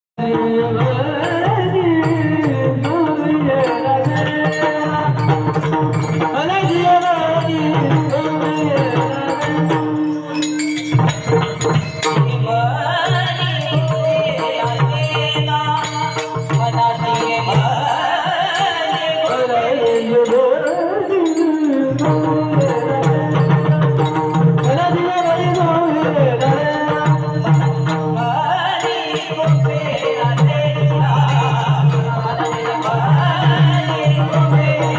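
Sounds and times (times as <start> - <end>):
hand drum and light percussion: 0.2 - 34.9
man singing: 0.2 - 34.9.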